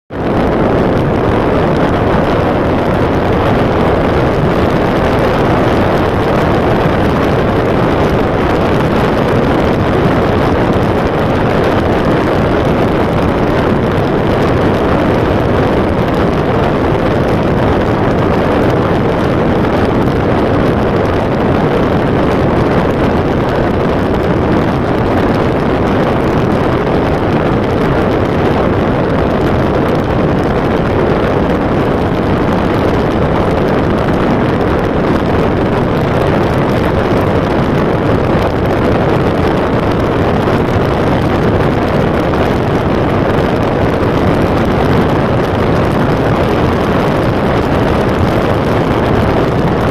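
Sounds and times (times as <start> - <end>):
road and wind noise inside a car: 0.1 - 49.9.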